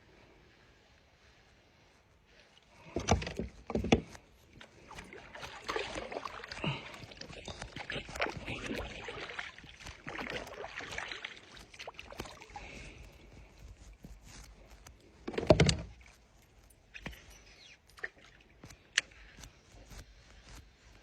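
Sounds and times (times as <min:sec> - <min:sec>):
water splashing against kayak: 0:02.6 - 0:21.0.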